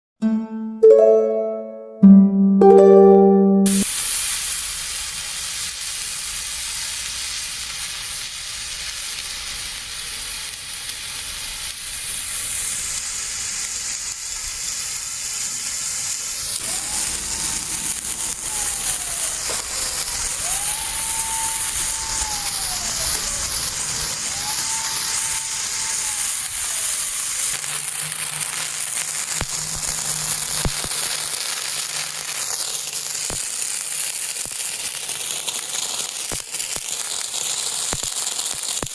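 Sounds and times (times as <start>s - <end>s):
firework hissing sizzle: 3.9s - 38.9s.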